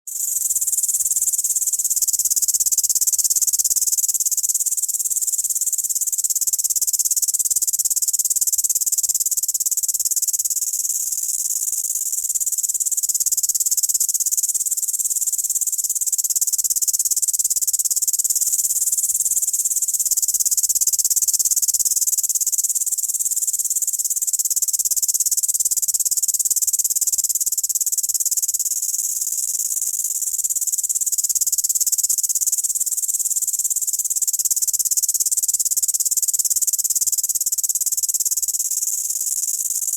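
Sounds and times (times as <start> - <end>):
grasshopper stridulating: 0.1 - 39.9.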